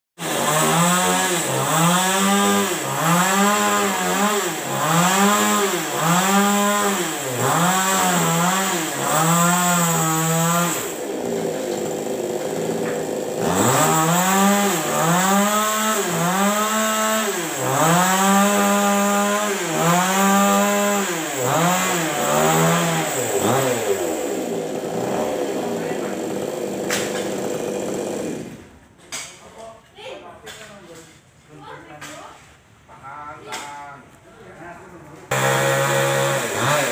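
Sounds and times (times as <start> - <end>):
chainsaw revving and idling: 0.2 - 28.8, 35.3 - 36.9.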